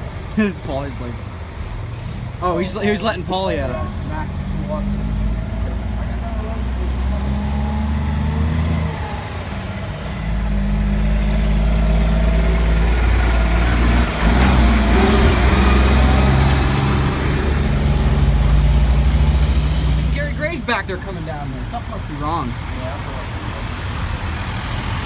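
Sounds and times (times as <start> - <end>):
truck engine accelerating: 0.0 - 25.0.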